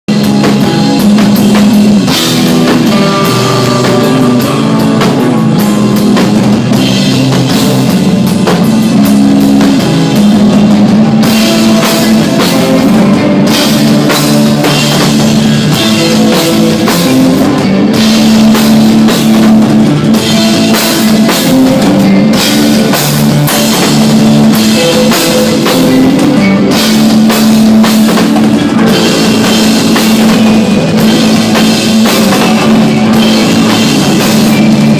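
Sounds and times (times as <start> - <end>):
rock band playing live: 0.0 - 34.9
drums with cymbal hits: 0.1 - 34.9.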